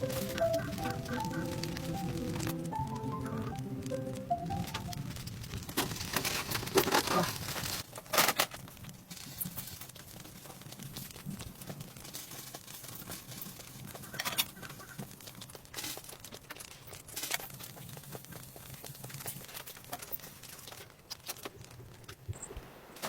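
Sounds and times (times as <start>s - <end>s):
crinkling and rustling: 0.0s - 23.0s.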